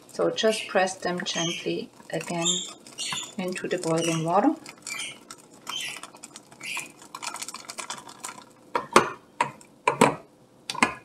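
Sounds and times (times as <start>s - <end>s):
dough press crackling and clicking: 1.0s - 11.0s.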